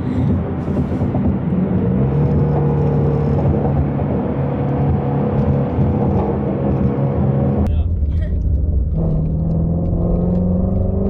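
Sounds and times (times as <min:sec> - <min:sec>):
car engine heard from cabin: 0:00.0 - 0:11.0.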